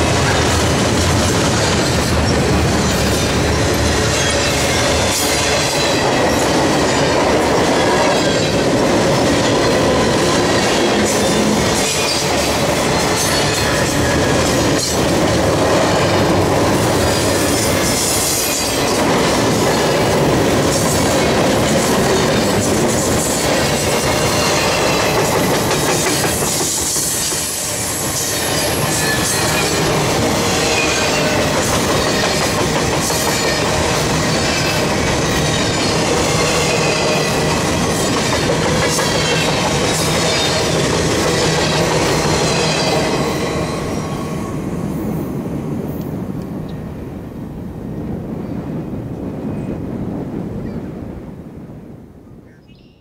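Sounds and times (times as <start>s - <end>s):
rail clacks: 0.0s - 47.0s
train wheels rolling on rails: 0.0s - 51.1s.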